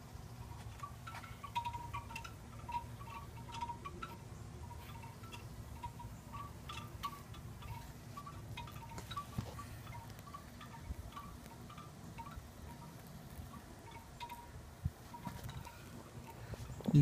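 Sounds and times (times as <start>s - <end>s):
tinkling ringing tones: 0.0s - 17.0s.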